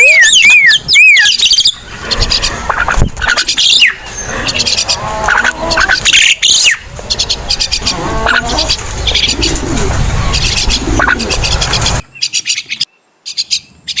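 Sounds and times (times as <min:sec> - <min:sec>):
myna chattering and whistling: 0:00.0 - 0:12.0.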